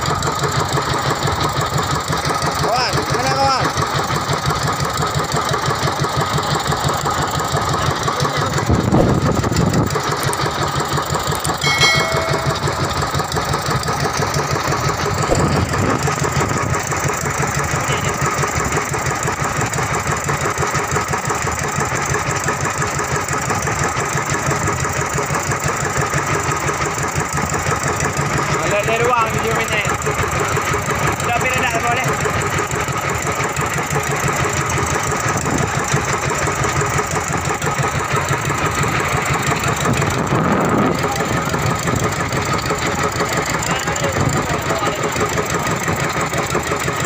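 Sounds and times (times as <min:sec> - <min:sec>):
boat engine idling: 0:00.0 - 0:47.0.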